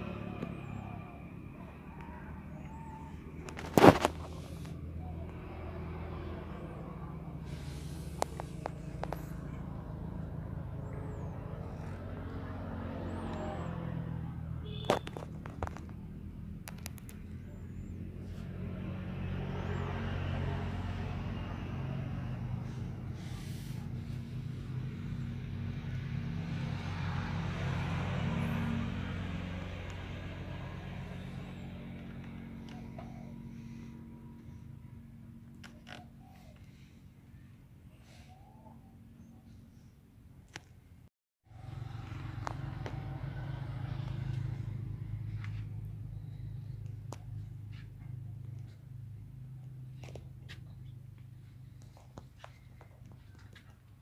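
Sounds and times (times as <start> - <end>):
low motor hum: 0.0 - 54.0.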